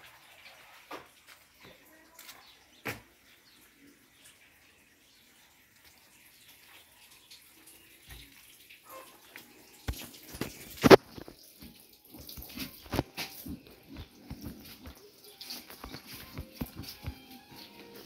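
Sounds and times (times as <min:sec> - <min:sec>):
water splashing in a sink: 0:00.0 - 0:18.0.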